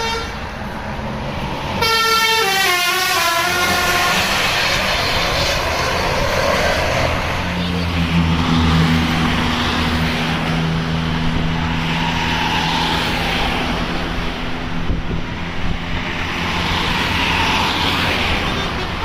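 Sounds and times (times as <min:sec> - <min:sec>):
bus engine drone: 0:00.0 - 0:19.0
vehicles passing: 0:00.0 - 0:19.0.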